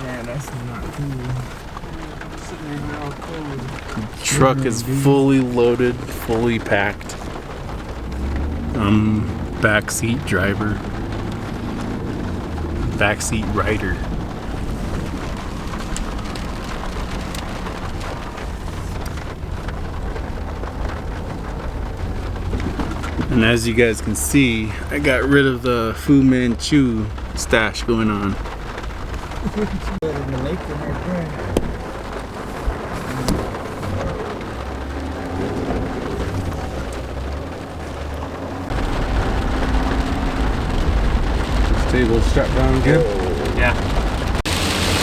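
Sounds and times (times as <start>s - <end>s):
engine and road rumble: 0.0s - 45.0s
rain pattering on a truck: 0.0s - 45.0s.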